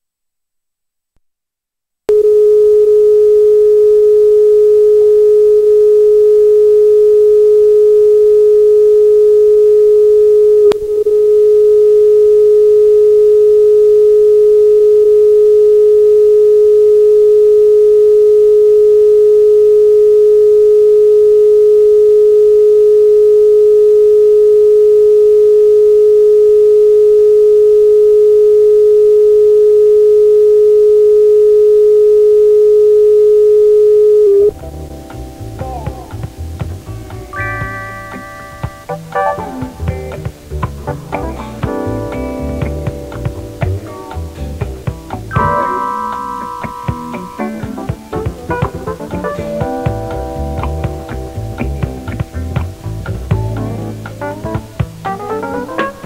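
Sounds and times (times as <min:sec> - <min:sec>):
steady test tone: 0:02.1 - 0:56.0.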